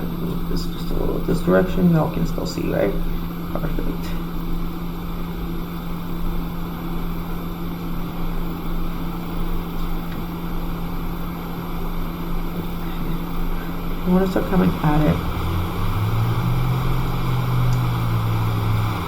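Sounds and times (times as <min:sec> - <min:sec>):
hot air station blowing: 0:00.0 - 0:19.0.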